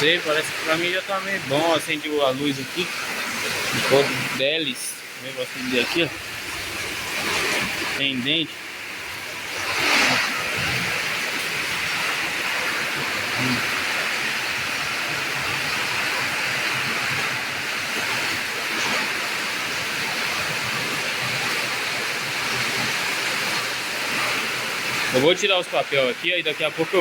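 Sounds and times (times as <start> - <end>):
rain on roof tiles: 0.0 - 27.0.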